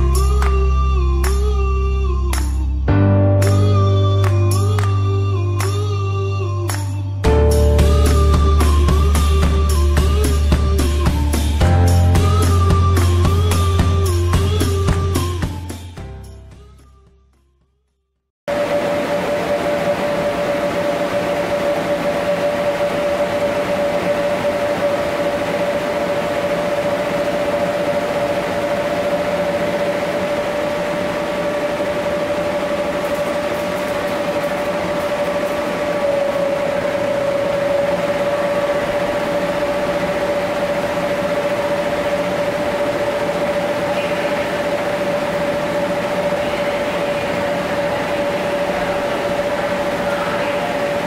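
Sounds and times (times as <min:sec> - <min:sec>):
electric blower fans whirring: 0:00.0 - 0:16.0, 0:18.5 - 0:51.0.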